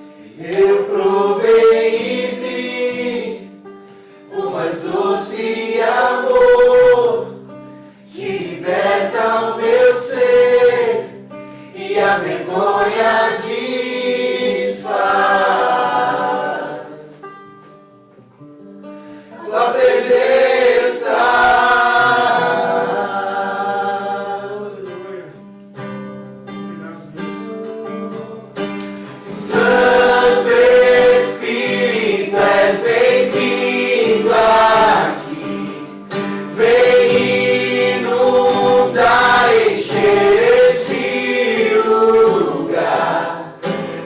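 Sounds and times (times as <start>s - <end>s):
acoustic guitar: 0.0s - 44.0s
group singing worship song: 0.1s - 7.5s, 8.1s - 17.5s, 19.2s - 25.0s, 29.0s - 44.0s.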